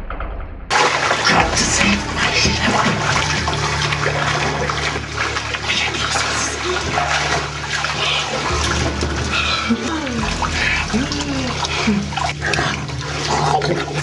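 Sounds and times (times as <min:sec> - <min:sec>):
bathtub water rushing: 0:00.7 - 0:14.0.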